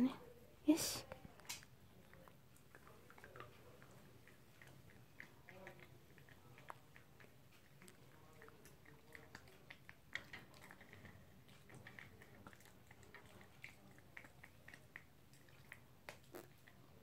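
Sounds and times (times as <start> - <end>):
dog chewing and gnawing: 1.4 - 17.0.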